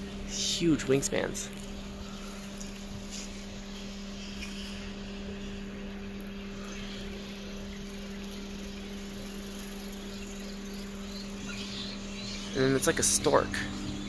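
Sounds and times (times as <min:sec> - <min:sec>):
fruit bats chirping and squeaking: 0:00.0 - 0:14.0
steady low hum: 0:00.0 - 0:14.0.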